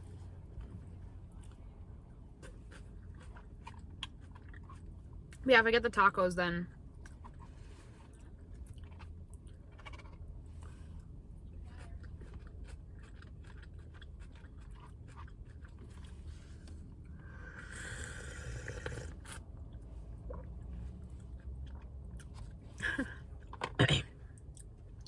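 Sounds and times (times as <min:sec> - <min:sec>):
person chewing salad: 0:00.4 - 0:05.4, 0:06.7 - 0:23.8.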